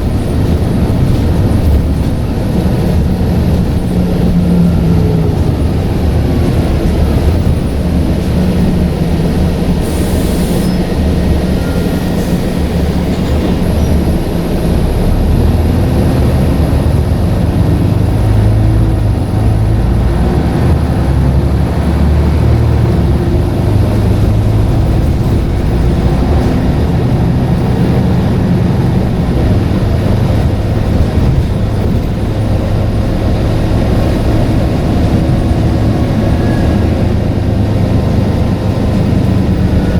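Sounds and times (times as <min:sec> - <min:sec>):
bus diesel engine rumble: 0:00.0 - 0:39.9.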